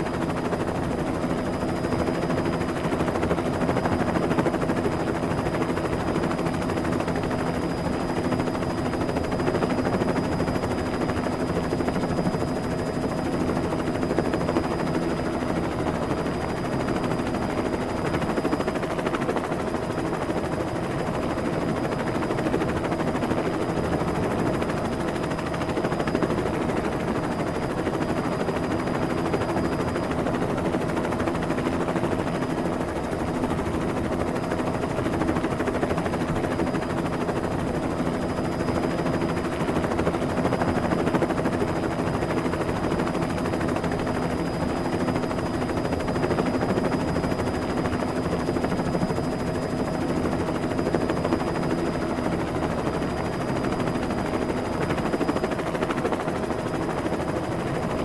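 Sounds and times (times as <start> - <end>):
helicopter engine drone: 0.0 - 58.0.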